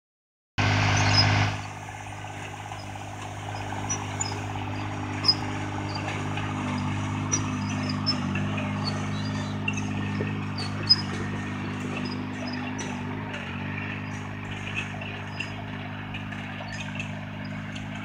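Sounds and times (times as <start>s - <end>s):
tractor diesel engine running: 0.6s - 18.0s.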